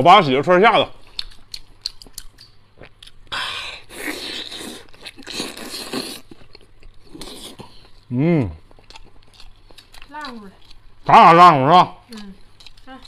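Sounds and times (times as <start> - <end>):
chewing meat: 1.0 - 13.0.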